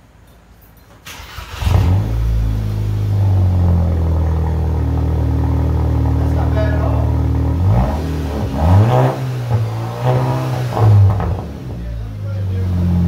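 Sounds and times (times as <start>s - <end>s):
car engine starting and idling: 1.0s - 13.0s.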